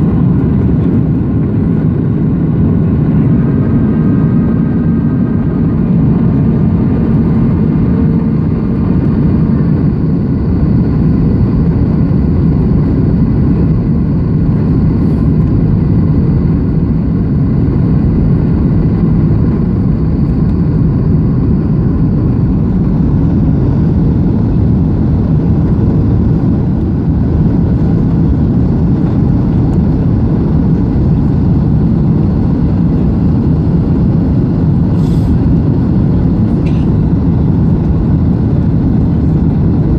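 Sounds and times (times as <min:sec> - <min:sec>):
jet engine rumble in cabin: 0:00.0 - 0:39.9
rushing airflow: 0:00.0 - 0:39.9.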